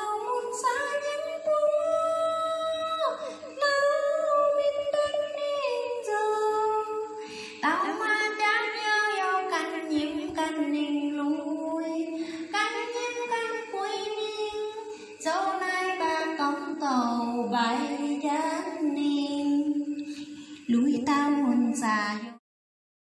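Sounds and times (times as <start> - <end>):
woman singing into a microphone: 0.0 - 22.4.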